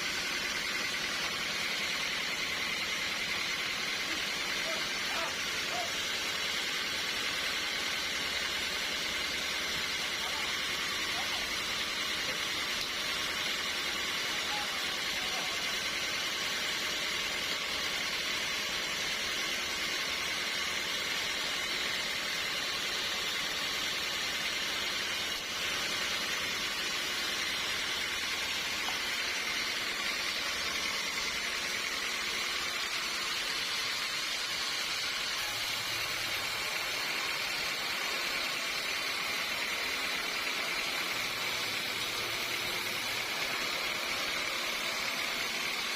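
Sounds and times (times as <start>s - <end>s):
sawmill machinery hissing: 0.0s - 45.9s.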